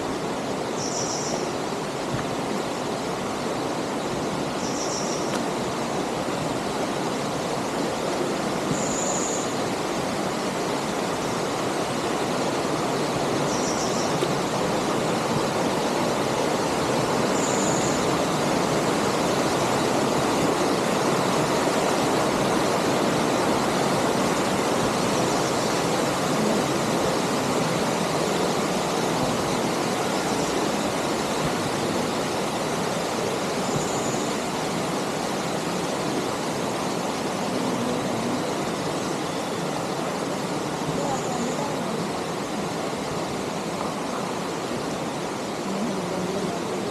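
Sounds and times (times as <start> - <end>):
river and waterfalls rushing: 0.0 - 46.9.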